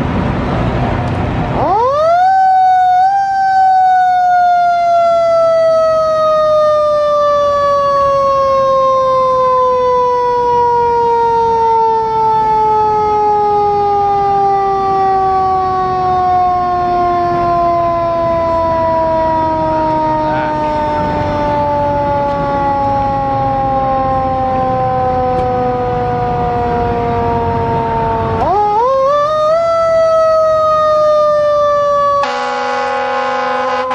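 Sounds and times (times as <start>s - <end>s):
mechanical siren wailing: 1.5s - 33.9s.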